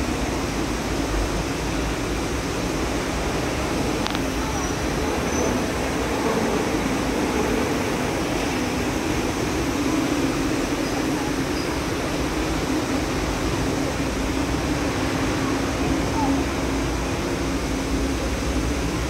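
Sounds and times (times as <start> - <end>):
low traffic hum: 0.0 - 19.0
traffic rushing hiss: 0.0 - 19.0.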